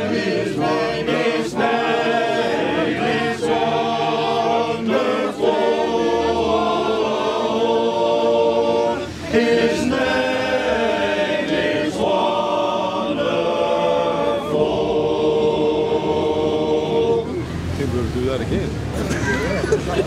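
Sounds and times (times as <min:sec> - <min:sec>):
choir singing unaccompanied: 0:00.0 - 0:17.7.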